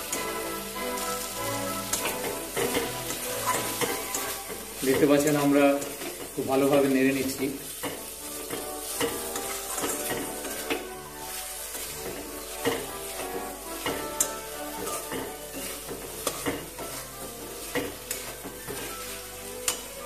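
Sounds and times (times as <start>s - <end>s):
spatula scraping metal pan: 0.0s - 6.9s, 7.7s - 20.0s
light sizzle of frying: 0.0s - 20.0s.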